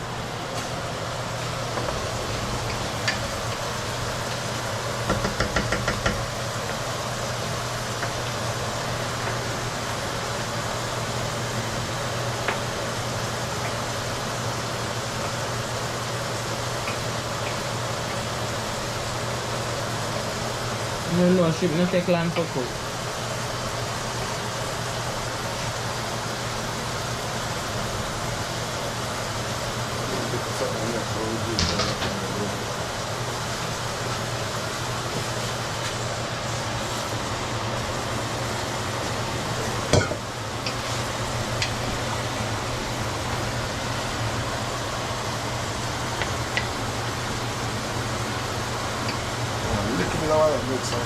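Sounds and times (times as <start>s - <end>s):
fan running: 0.0s - 51.0s
low stove hum: 0.0s - 51.0s
shrimp cooking hiss: 0.0s - 51.0s.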